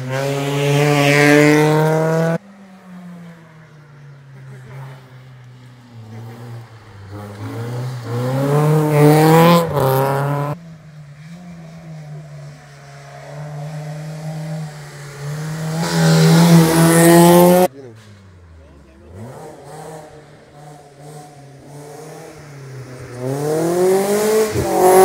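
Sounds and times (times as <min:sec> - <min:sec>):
race cars accelerating past: 0:00.0 - 0:10.6, 0:11.2 - 0:25.0.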